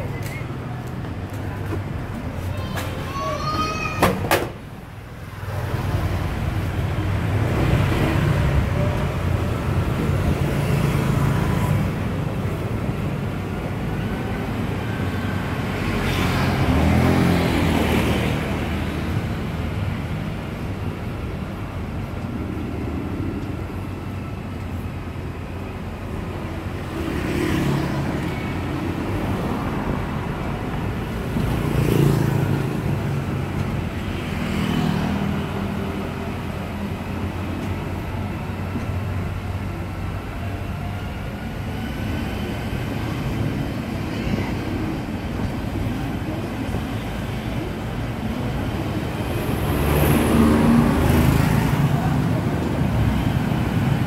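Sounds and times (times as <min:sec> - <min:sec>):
road and traffic noise: 0:00.0 - 0:54.0.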